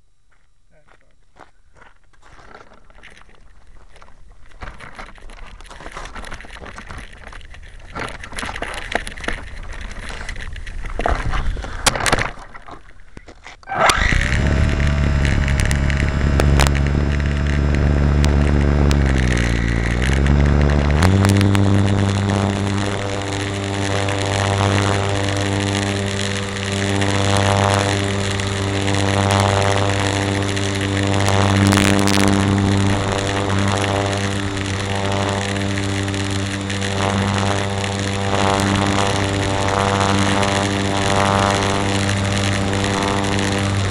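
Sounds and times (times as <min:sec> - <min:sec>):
rustling: 0:01.8 - 0:43.9
model plane motor whine: 0:04.4 - 0:43.9.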